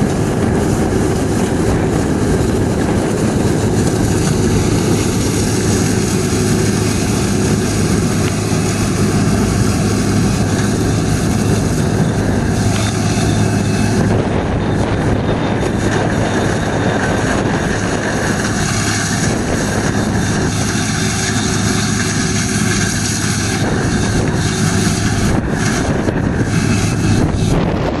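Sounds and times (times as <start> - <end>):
diesel machinery engine drone: 0.0 - 28.0.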